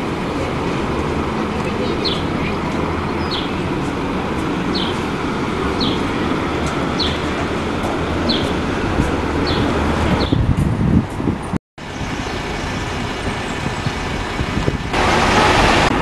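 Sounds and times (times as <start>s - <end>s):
bus diesel engines rumbling: 0.0s - 16.0s
traffic noise: 0.0s - 16.0s.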